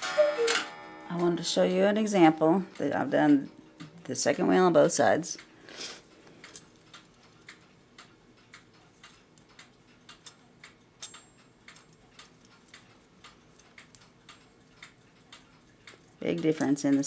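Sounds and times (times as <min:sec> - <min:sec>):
mechanical clock ticking: 0:00.0 - 0:17.0.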